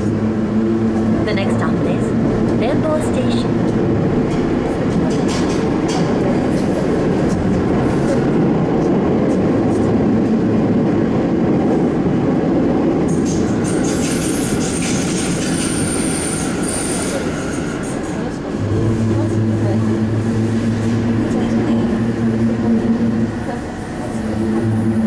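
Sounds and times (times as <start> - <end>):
train rumbling through tunnel: 0.0 - 25.0.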